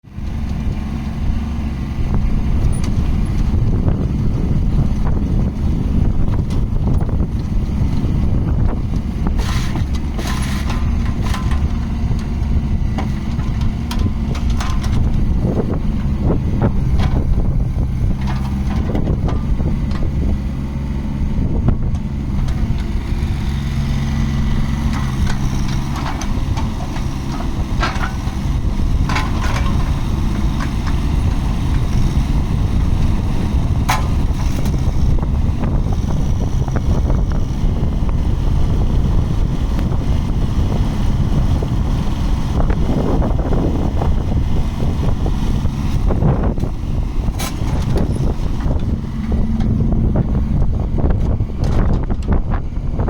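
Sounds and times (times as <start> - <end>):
excavator diesel engine running: 0.1 - 53.0.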